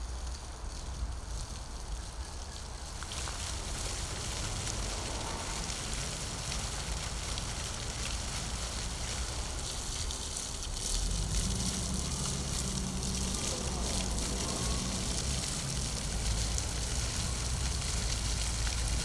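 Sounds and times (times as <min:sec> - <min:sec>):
fountain water splashing: 0:00.1 - 0:19.0.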